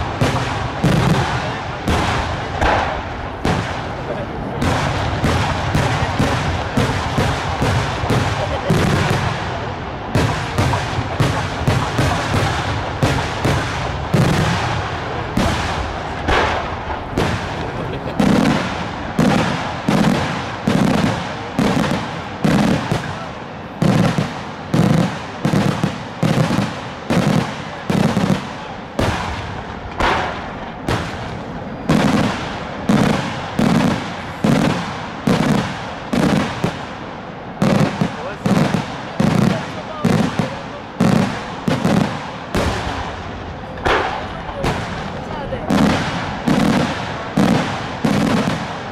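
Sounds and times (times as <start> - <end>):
fireworks bursting with loud bangs: 0.0 - 48.9.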